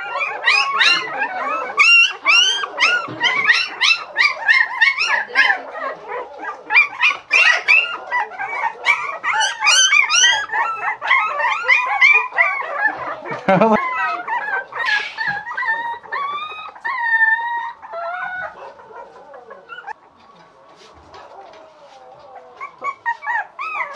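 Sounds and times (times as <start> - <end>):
puppy yelping and whining: 0.0 - 20.0, 21.3 - 23.9.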